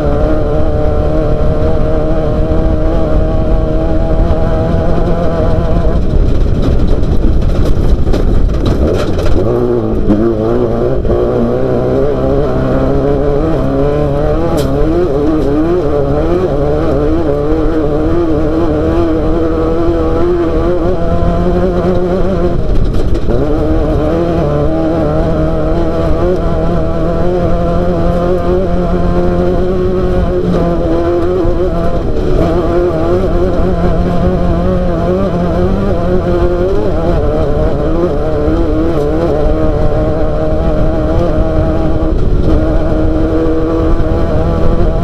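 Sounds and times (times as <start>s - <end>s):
race vehicle engine revving: 0.0s - 45.0s.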